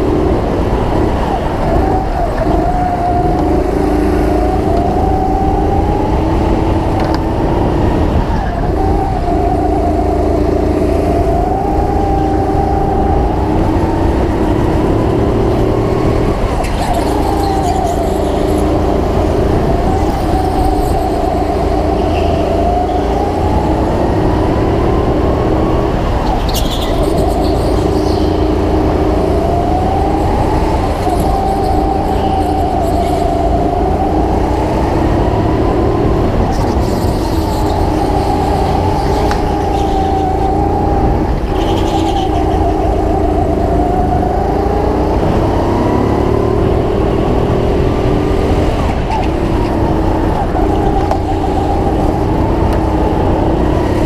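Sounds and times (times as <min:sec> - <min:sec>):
go-kart engine: 0:00.0 - 0:54.0.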